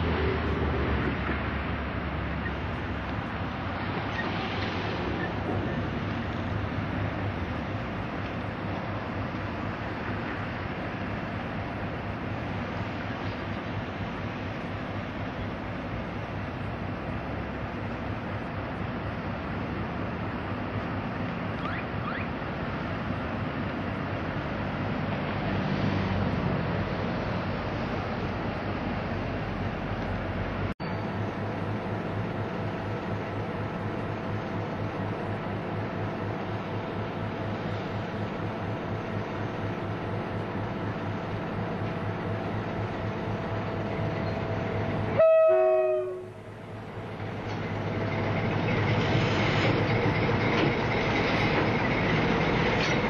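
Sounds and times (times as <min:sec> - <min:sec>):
diesel locomotive engine running: 0:00.0 - 0:53.0.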